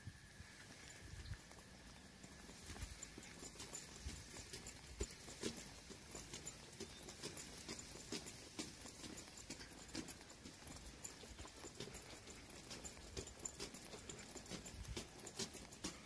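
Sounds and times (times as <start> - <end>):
footsteps on tiles: 1.6 - 16.0.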